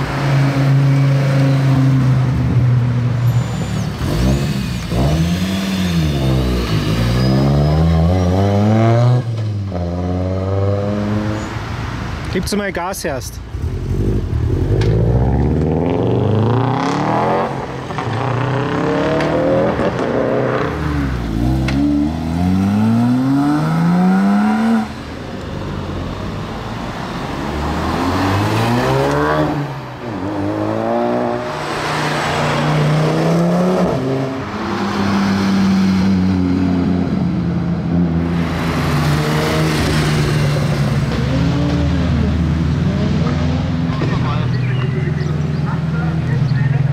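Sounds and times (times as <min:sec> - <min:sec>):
car engines revving through gears: 0:00.0 - 0:12.3, 0:13.5 - 0:46.9.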